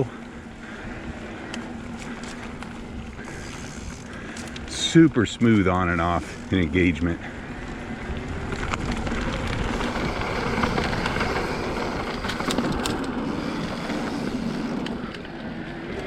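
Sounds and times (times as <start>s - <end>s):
bike tyres rolling rumble: 0.0s - 16.0s
sharp clicks and rattles: 1.4s - 7.2s, 8.0s - 16.0s.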